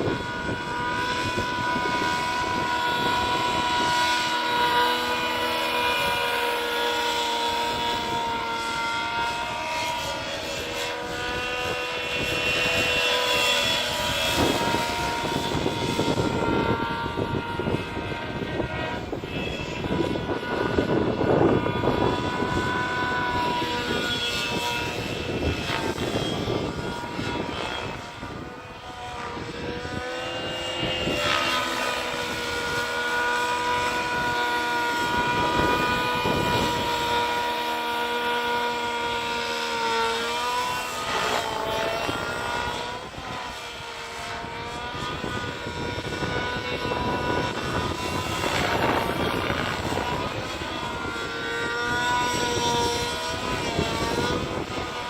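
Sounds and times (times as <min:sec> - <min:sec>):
model helicopter engine whine: 0:00.0 - 0:55.0.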